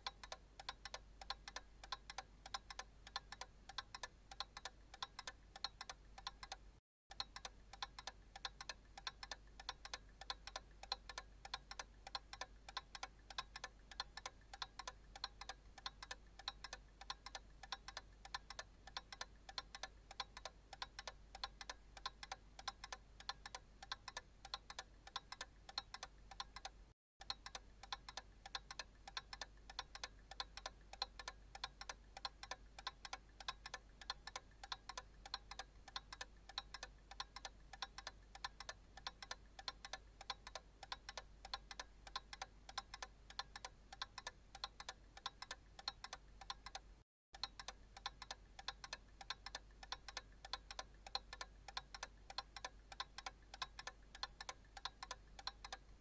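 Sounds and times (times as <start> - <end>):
analog clock ticking: 0.0 - 56.0.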